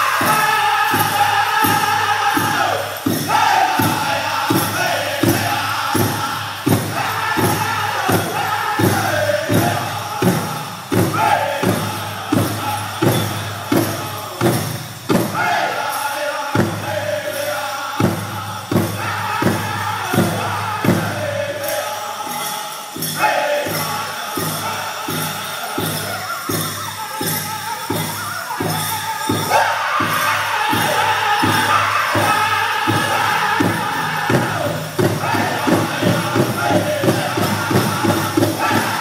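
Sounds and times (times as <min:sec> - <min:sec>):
group singing in unison: 0:00.0 - 0:39.0.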